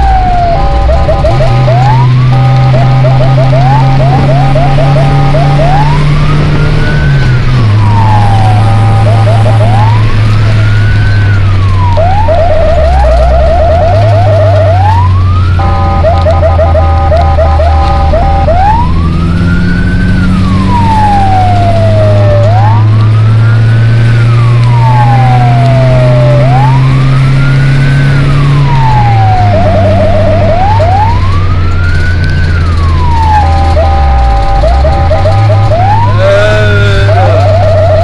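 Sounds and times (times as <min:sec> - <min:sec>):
fire truck siren wailing: 0:00.0 - 0:38.0
truck engine drone: 0:00.0 - 0:38.0.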